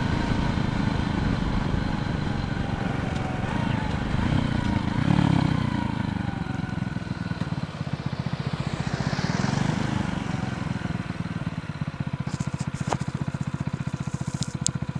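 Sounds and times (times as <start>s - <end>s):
truck passing: 0.0s - 14.3s
motorcycle engine at low revs: 0.0s - 14.9s.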